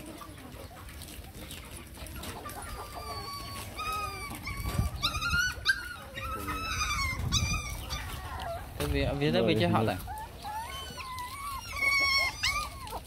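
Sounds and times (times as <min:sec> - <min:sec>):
puppies whimpering and squeaking: 0:00.0 - 0:13.0.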